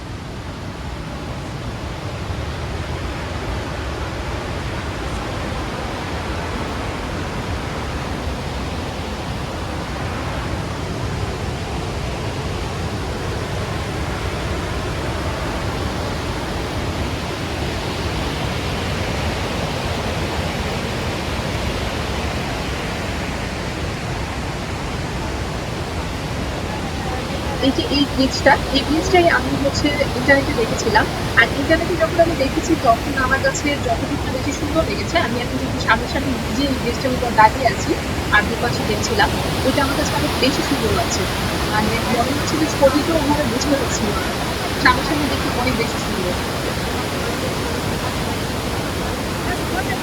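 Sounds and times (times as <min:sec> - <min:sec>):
waterfall roar: 0:00.0 - 0:50.0.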